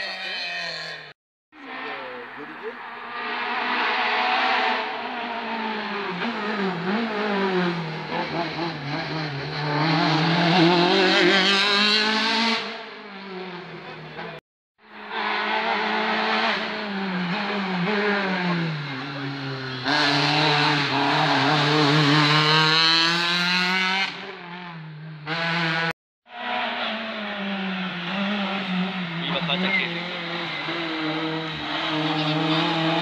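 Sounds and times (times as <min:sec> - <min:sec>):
rally car engine at high revs: 0:01.6 - 0:33.0.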